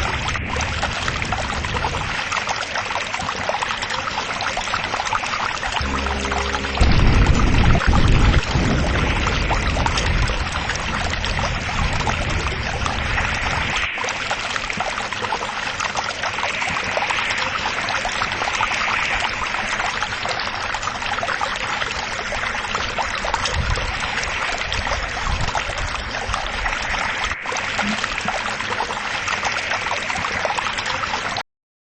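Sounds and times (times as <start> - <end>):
flowing water rushing: 0.0 - 31.4.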